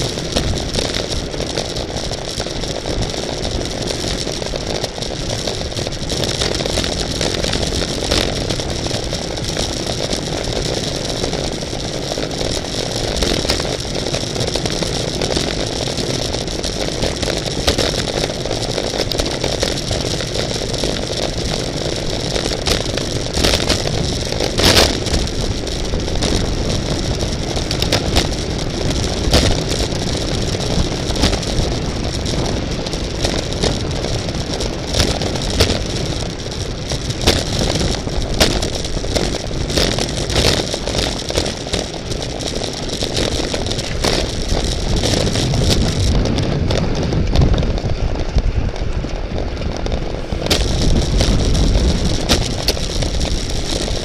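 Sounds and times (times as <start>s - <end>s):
bicycle clicks and rattles: 0.0s - 54.0s
road rumble: 0.0s - 54.0s
wind rush: 0.0s - 54.0s.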